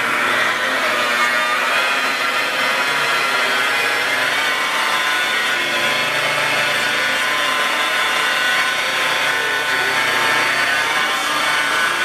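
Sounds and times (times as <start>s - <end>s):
electric polisher running: 0.0s - 12.0s.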